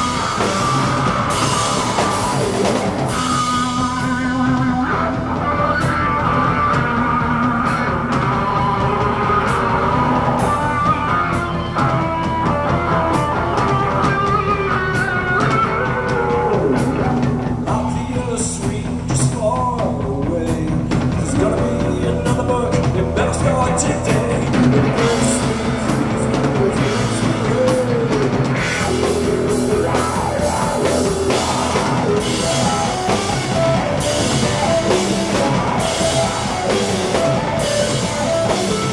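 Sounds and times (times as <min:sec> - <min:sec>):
bass guitar: 0:00.0 - 0:38.9
drum kit: 0:00.0 - 0:38.9
electric guitar: 0:00.0 - 0:38.9
person singing: 0:00.0 - 0:38.9.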